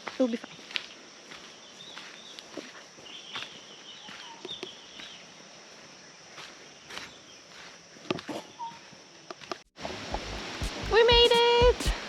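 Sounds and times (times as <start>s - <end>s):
footsteps on trail: 0.0s - 12.0s.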